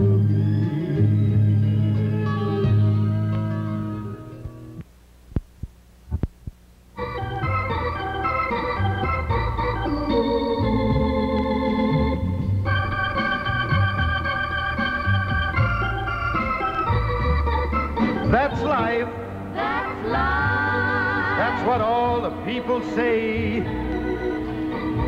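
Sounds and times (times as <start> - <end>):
organ music: 0.0 - 4.8, 7.0 - 25.0.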